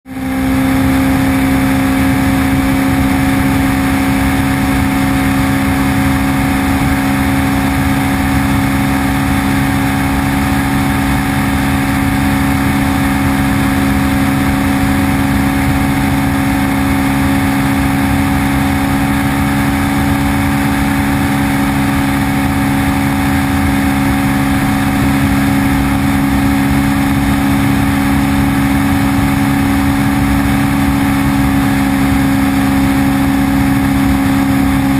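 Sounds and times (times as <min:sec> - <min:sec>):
constant rushing noise: 0:00.1 - 0:34.9
motorcycle engine cruising: 0:00.1 - 0:34.9.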